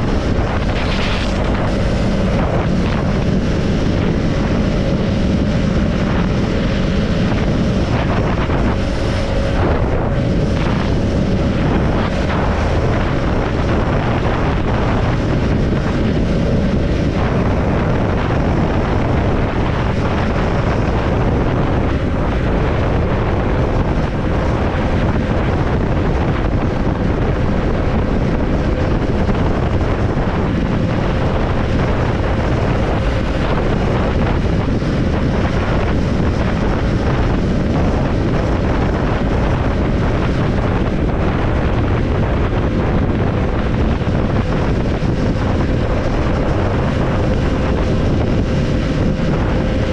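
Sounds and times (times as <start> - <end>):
motorcycle engine running: 0.0 - 49.9
wind rushing over microphone: 0.0 - 49.9.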